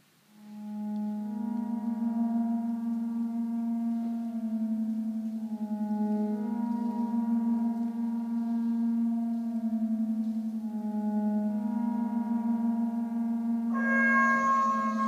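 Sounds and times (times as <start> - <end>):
ambient drone music: 0.3 - 15.0.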